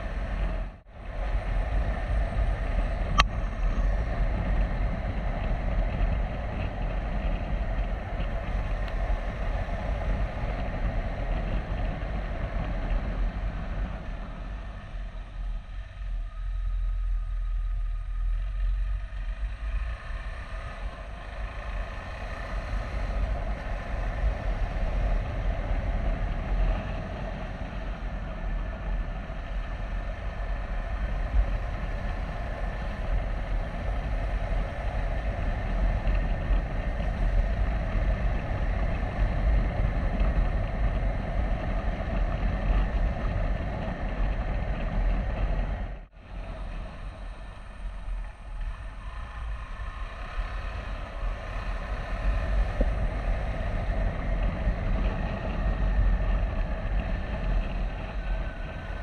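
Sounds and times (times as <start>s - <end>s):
motorcycle engine running: 0.0s - 59.0s
wind on microphone: 0.0s - 59.0s.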